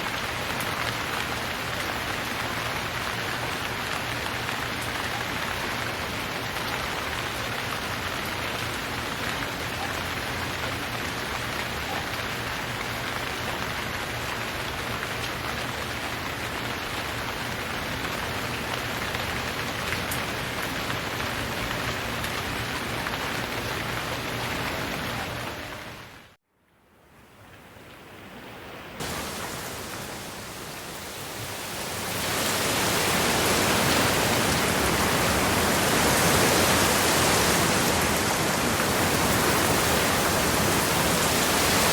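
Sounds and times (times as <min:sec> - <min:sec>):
dense rain falling: 0:00.0 - 0:26.4, 0:28.8 - 0:41.9.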